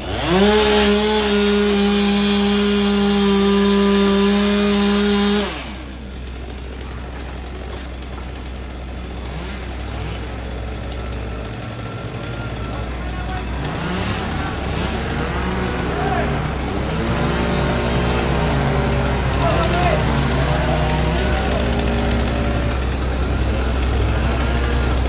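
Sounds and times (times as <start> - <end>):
chainsaw at full throttle: 0.0 - 25.0.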